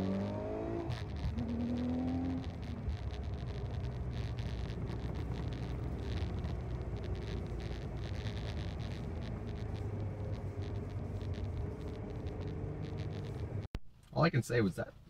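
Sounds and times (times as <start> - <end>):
car engine hum: 0.0 - 13.7
road and tyre noise: 0.0 - 13.7.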